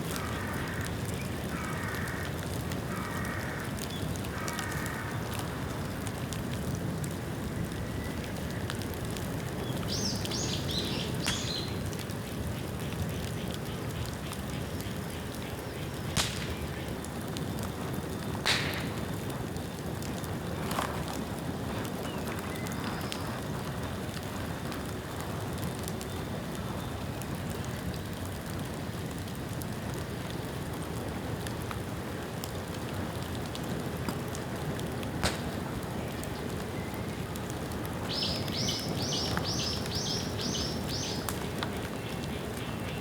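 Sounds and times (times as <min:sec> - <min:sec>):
fire popping: 0:00.0 - 0:42.9
bonfire crackling hiss: 0:00.0 - 0:43.0.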